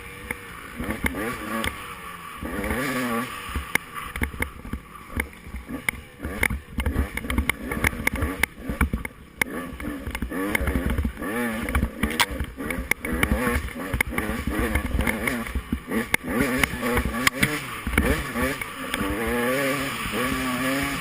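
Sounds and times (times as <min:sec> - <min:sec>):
off-road motorcycle engine revving: 0:00.0 - 0:21.0.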